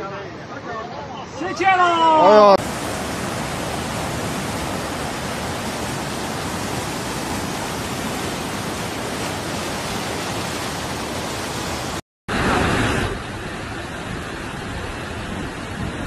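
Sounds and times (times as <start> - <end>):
floodwater rushing down river: 0.0 - 16.0.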